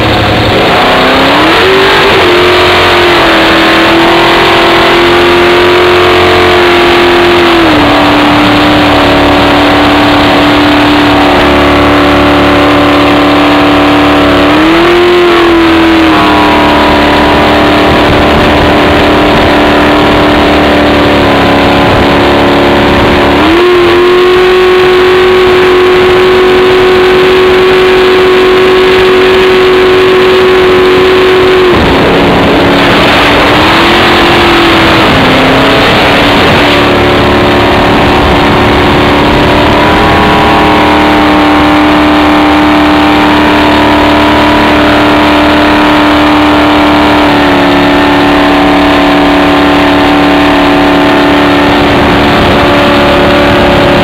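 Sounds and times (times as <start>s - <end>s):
boat engine running loud: 0.0s - 54.0s.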